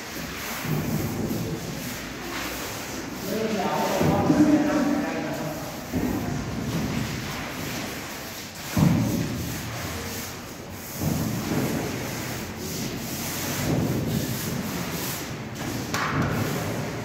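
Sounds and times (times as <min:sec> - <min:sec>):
grout scraping on tiled floor: 0:00.0 - 0:17.0.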